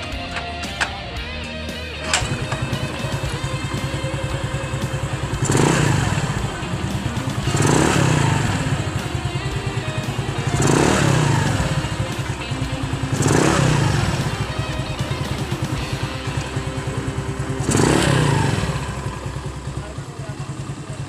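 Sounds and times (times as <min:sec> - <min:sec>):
scooter engine idling: 0:00.0 - 0:21.0.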